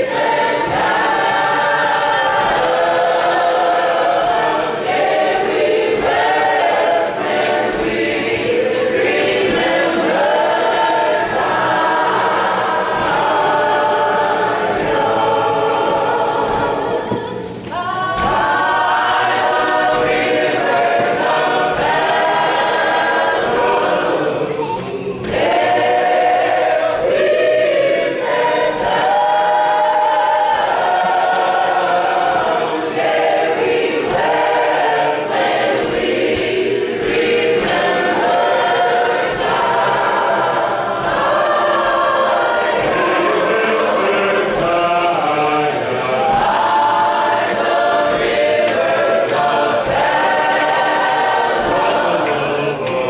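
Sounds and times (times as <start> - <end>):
church choir singing: 0.0 - 53.0.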